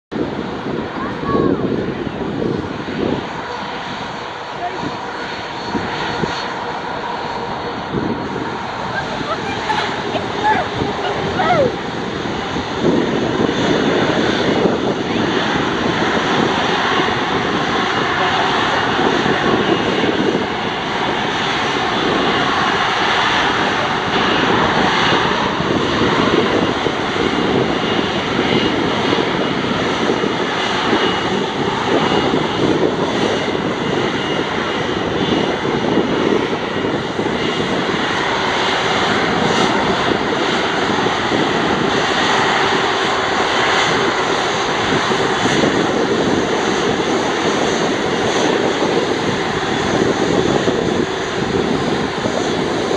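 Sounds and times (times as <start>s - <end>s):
high jet engine whine: 0.1s - 52.9s
jet engines roaring: 0.1s - 52.9s.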